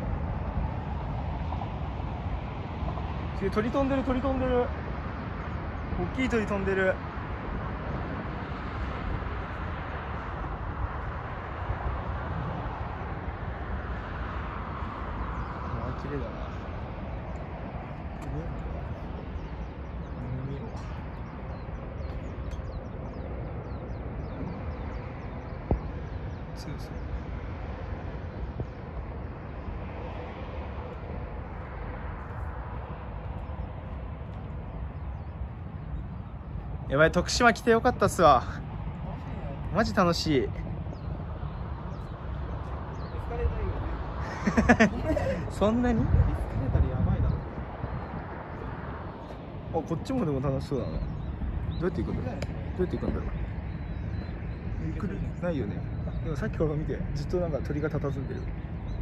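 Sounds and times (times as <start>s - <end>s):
distant highway traffic hum: 0.0s - 59.0s.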